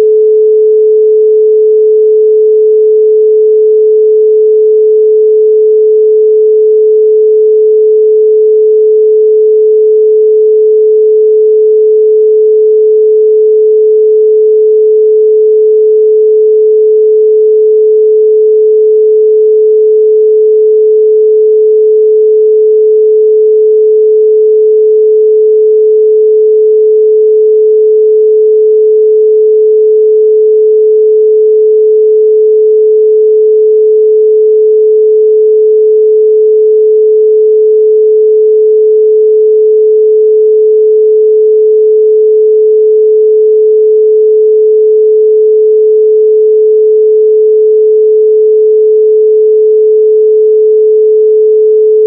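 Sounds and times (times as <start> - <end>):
pure sine tone: 0.0 - 52.0.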